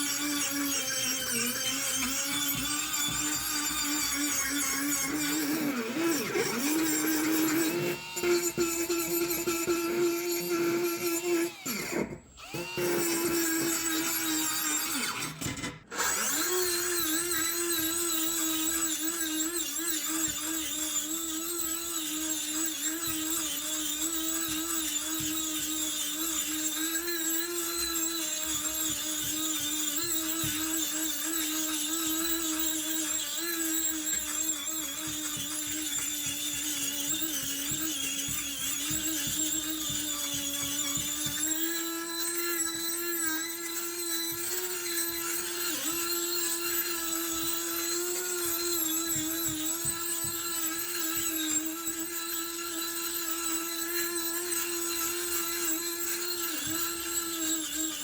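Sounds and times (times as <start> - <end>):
small power tool running: 0.0 - 58.0.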